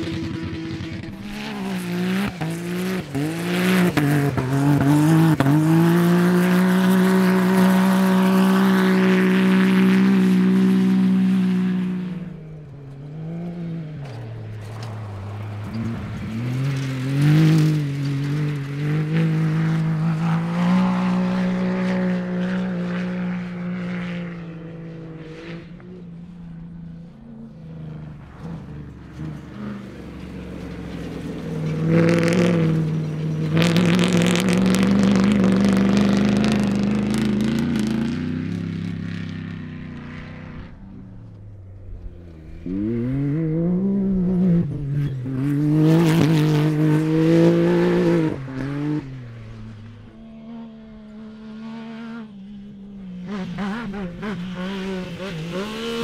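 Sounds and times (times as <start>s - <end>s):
racing engines revving: 0.0s - 56.0s.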